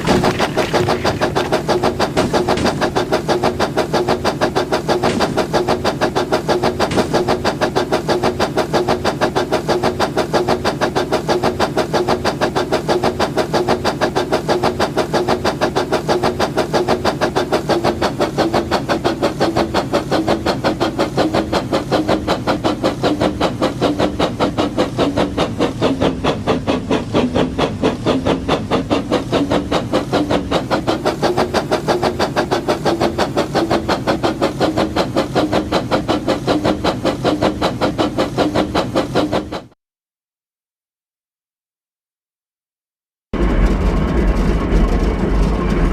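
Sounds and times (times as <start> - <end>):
toy train motor clattering: 0.0 - 39.7.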